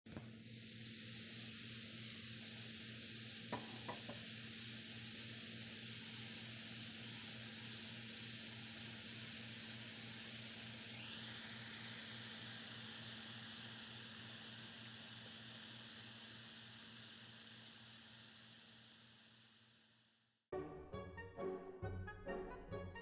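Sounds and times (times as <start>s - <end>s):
steady hiss: 0.1s - 20.3s.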